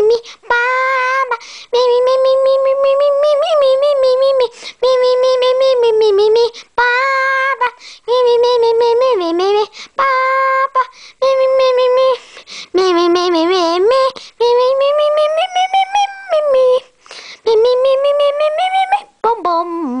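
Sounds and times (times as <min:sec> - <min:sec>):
high-pitched voice singing: 0:00.0 - 0:20.0.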